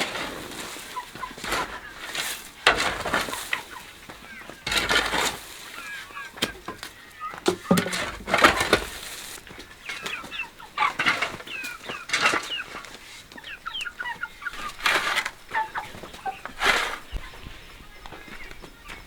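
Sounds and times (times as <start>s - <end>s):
rustling: 0.0s - 18.5s
chickens clucking: 0.0s - 19.0s.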